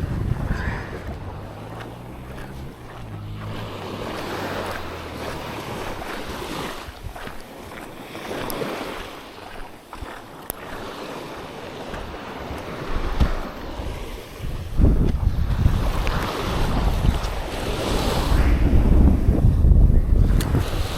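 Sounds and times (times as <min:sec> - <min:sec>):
surf washing on sandy beach: 0:00.0 - 0:20.9
wind on microphone: 0:00.0 - 0:20.9.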